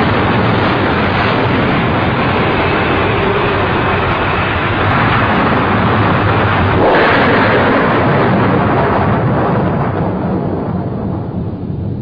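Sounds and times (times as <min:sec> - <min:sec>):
volcanic eruption roar: 0:00.0 - 0:12.0.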